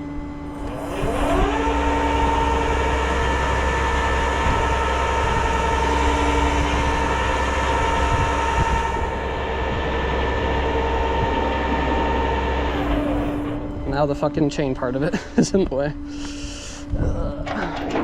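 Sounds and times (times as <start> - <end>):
truck engine whining hum: 0.0 - 18.0.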